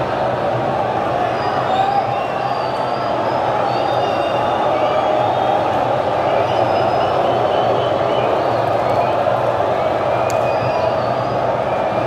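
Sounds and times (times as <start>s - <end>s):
stadium crowd din: 0.0s - 12.0s.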